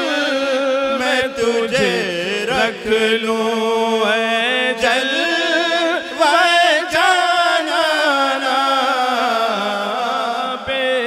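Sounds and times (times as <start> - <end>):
man chanting unaccompanied: 0.0 - 11.0.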